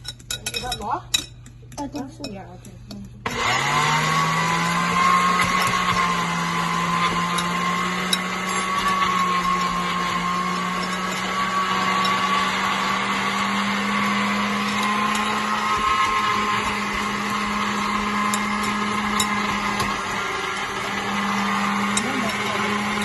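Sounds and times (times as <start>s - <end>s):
blender grinding oats: 3.2s - 23.0s.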